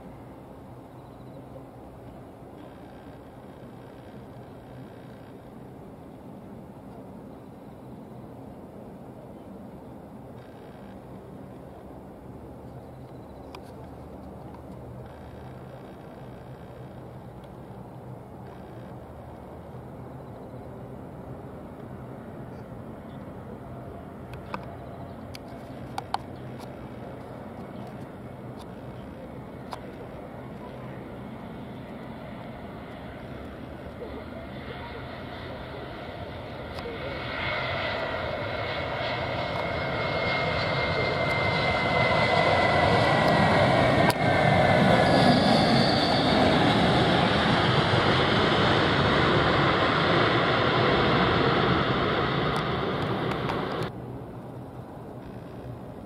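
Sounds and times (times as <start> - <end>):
distant jet engine rumble: 0.0 - 56.0.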